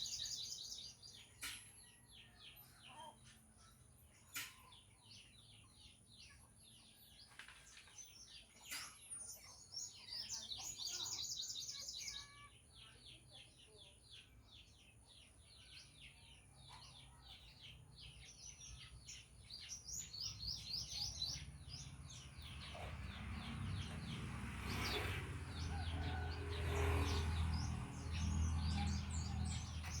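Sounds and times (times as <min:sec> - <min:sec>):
birds chirping in dawn chorus: 0:00.0 - 0:30.0.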